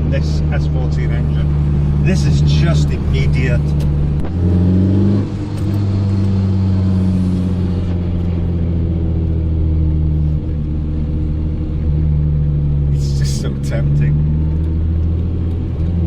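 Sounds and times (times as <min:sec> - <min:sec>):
car engine pulling: 0:00.0 - 0:16.0.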